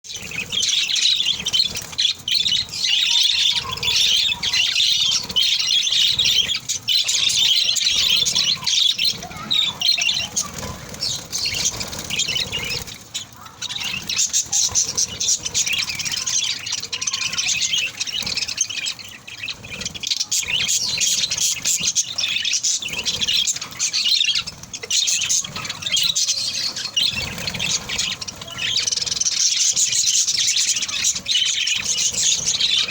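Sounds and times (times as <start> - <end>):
parrots chattering and squawking: 0.0 - 32.9.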